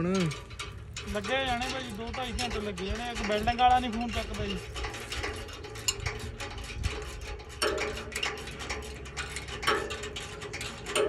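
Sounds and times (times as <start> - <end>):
hand tools clinking on metal: 0.0 - 11.0.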